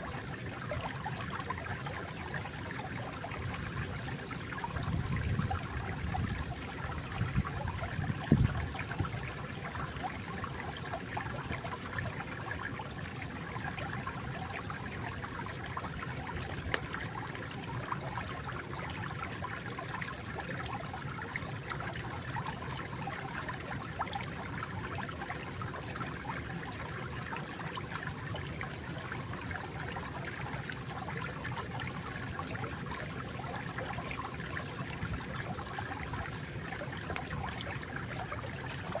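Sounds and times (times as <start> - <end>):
stream trickling: 0.0 - 39.0.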